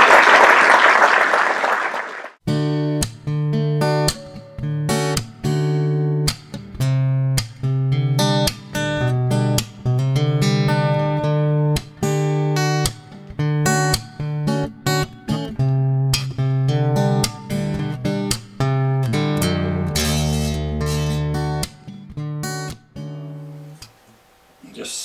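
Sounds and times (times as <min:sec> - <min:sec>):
acoustic guitar music: 0:02.4 - 0:24.8.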